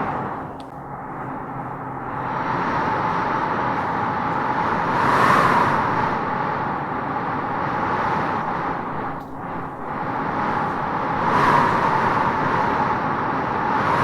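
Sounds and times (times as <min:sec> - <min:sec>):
howling wind gusting through trees: 0:00.0 - 0:14.0.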